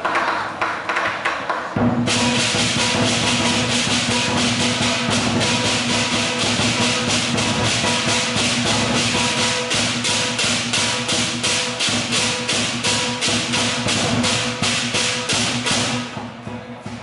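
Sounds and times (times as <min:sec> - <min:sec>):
cymbals clashing: 0:01.8 - 0:17.0
large drum beating: 0:01.8 - 0:17.0
gong ringing: 0:02.1 - 0:16.1.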